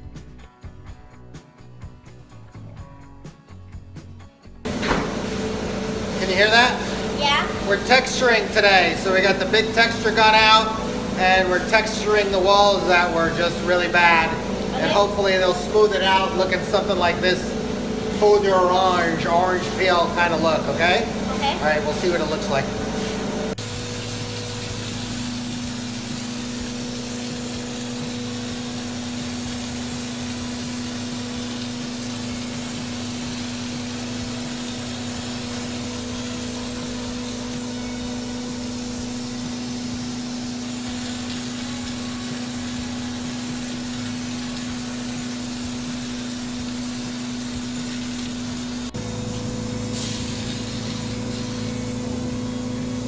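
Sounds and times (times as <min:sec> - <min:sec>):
spray gun hissing: 0:04.7 - 0:53.0
sprayer motor humming: 0:04.7 - 0:53.0.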